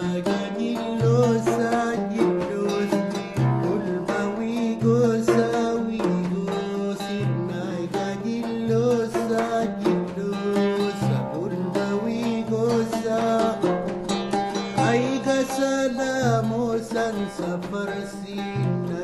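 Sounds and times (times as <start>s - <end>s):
plucked string instruments: 0.0s - 19.0s.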